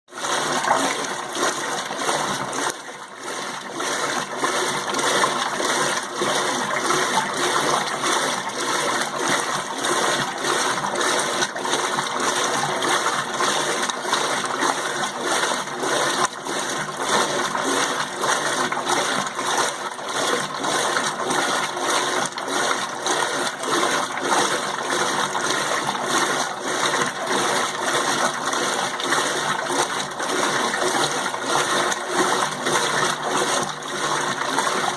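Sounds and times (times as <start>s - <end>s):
washing machine sloshing water: 0.1s - 34.9s.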